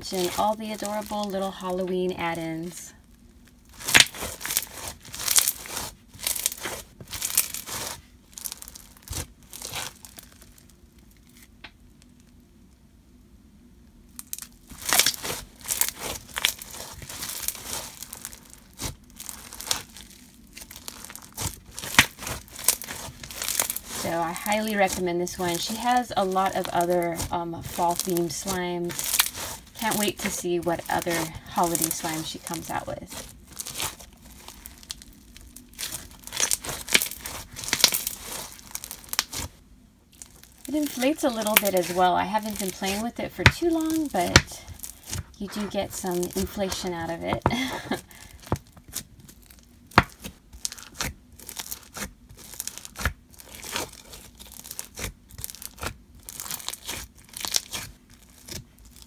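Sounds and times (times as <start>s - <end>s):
slime beads crackling: 0.0s - 11.6s, 14.1s - 59.0s.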